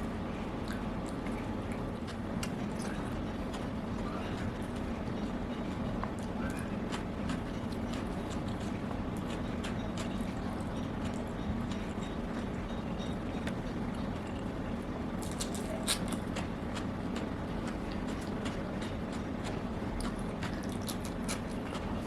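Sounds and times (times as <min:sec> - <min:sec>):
chewing: 0:00.6 - 0:22.0.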